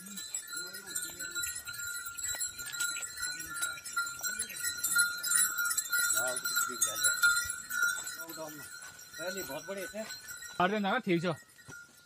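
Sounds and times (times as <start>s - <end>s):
collar bells clinking: 0.0s - 12.0s.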